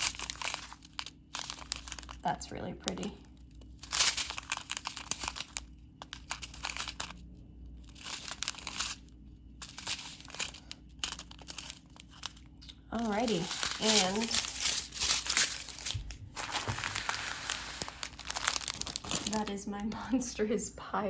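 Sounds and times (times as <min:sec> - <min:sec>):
small plastic bags crinkling: 0:00.0 - 0:19.7.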